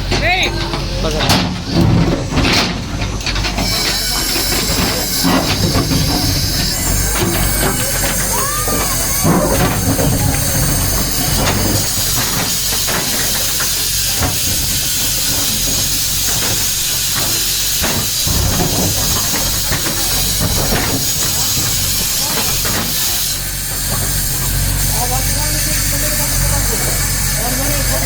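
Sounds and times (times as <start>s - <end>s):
backhoe diesel engine running: 0.0s - 28.0s
knocks and clanks: 0.0s - 28.0s.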